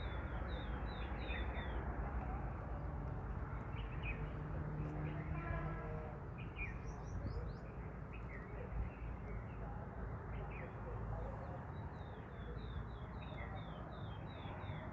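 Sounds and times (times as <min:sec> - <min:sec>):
wind: 0:00.0 - 0:14.9.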